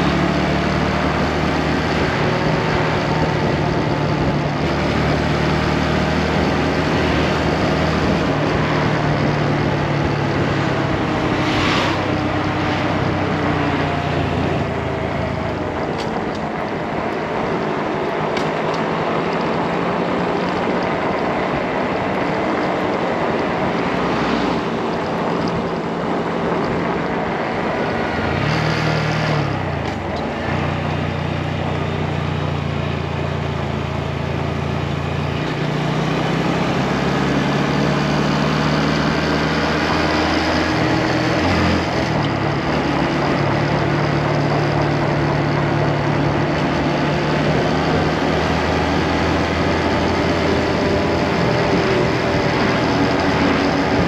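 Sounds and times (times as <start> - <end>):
motorcycle engine running: 0.0 - 54.0
wind noise on microphone: 0.2 - 30.9, 39.5 - 54.0.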